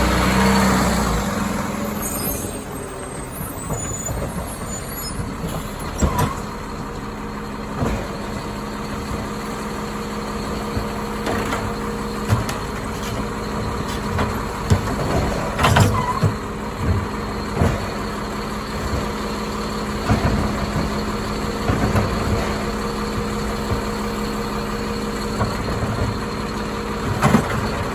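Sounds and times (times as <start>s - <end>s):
garbage truck idling: 0.0s - 27.9s
clunks and knocks: 3.4s - 27.9s.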